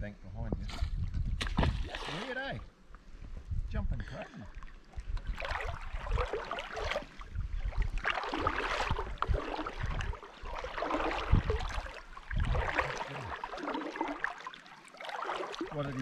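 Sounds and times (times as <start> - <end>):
water sloshing and lapping: 1.0 - 3.0, 4.1 - 16.0.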